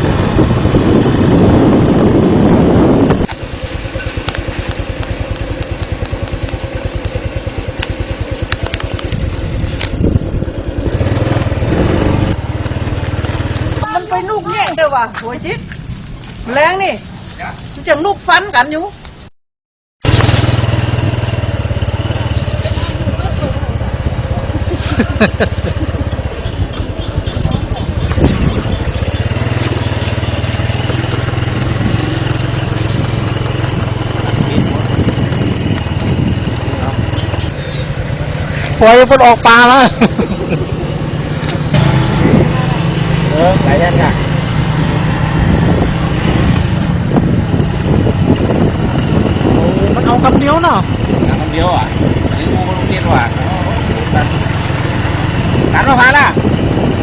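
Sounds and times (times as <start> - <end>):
small engine running: 0.0 - 13.8, 20.0 - 57.0.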